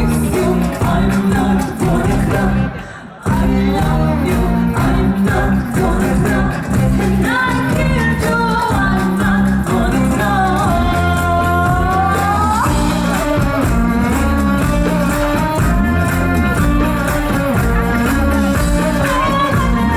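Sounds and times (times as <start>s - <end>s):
person singing: 0.0s - 19.9s
steady bass: 0.0s - 19.9s.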